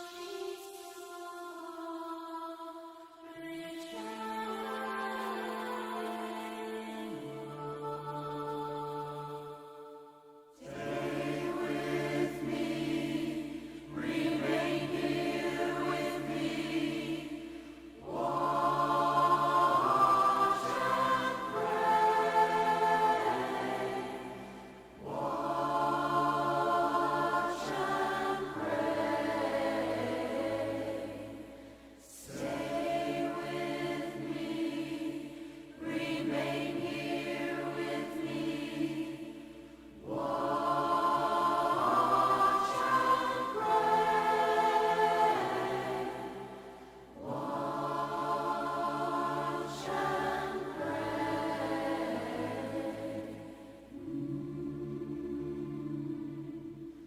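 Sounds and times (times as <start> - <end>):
choir singing held chords: 0.0 - 57.0.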